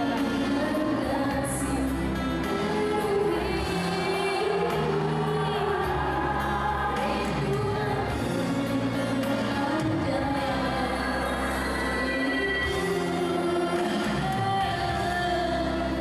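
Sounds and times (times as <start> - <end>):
backing music: 0.0 - 16.0
woman singing into a microphone: 0.0 - 16.0.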